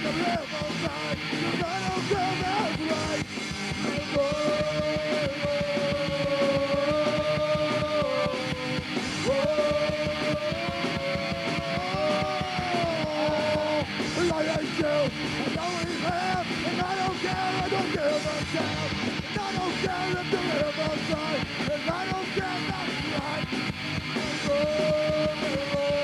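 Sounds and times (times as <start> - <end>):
distorted electric guitars: 0.0 - 26.0
fast busy drums: 0.0 - 26.0.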